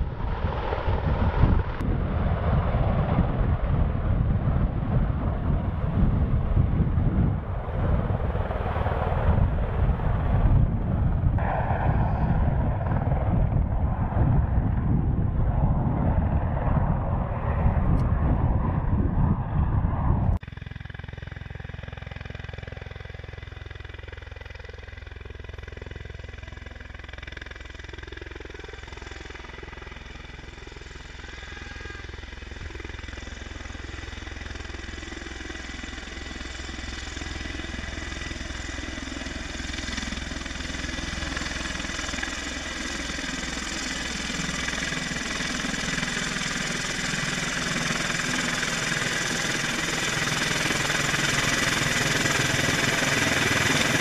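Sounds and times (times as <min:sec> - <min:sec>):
low rotor rumble: 0:00.0 - 0:54.0
turbine whine: 0:00.0 - 0:54.0.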